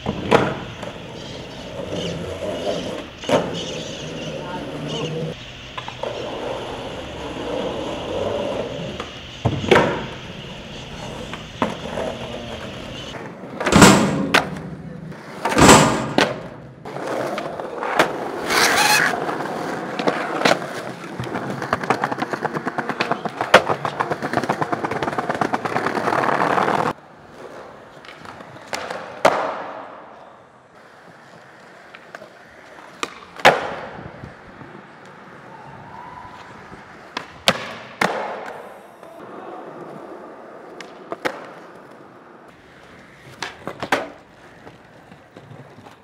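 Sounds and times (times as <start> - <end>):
skateboard deck cracks: 0.0 - 3.8, 5.7 - 30.1, 30.8 - 35.4, 36.4 - 39.2, 39.8 - 46.0
skateboard wheels rumbling: 0.0 - 46.0.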